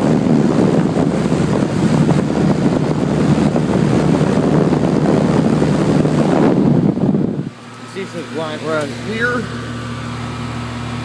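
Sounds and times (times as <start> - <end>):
fan air rushing on microphone: 0.0 - 11.0.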